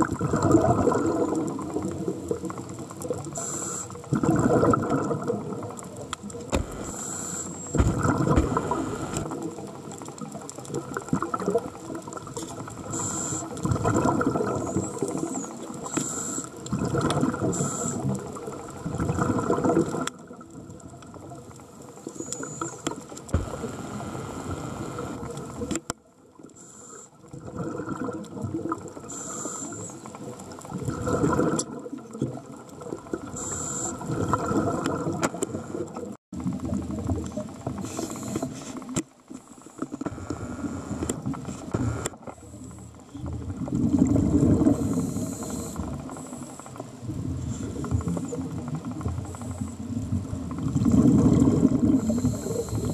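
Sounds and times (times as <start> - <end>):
exhaled bubbles underwater: 0.0 - 26.6, 27.2 - 39.3, 40.0 - 52.9.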